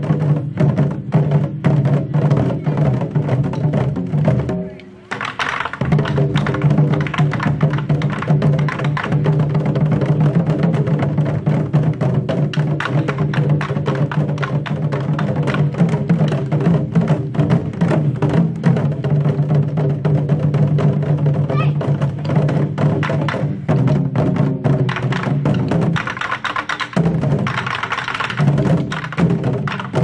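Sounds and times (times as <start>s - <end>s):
barrel drums beaten rapidly: 0.0s - 30.0s.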